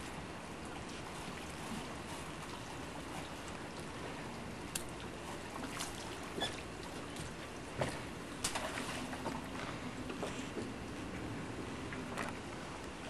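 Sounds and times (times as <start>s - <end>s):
water lapping against boat: 0.0s - 13.0s.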